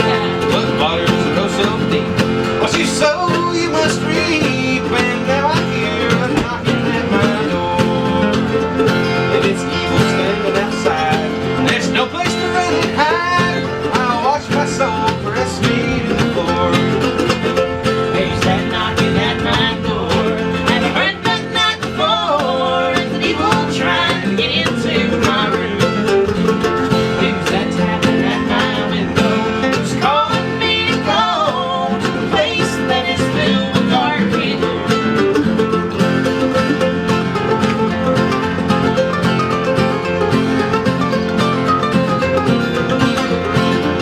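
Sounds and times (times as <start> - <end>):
acoustic bluegrass string band: 0.0 - 44.0.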